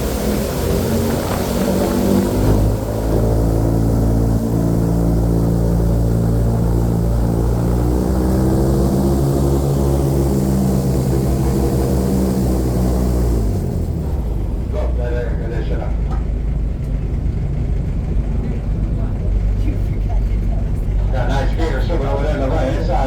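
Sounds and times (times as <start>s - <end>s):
airboat engine and propeller: 0.0s - 23.0s.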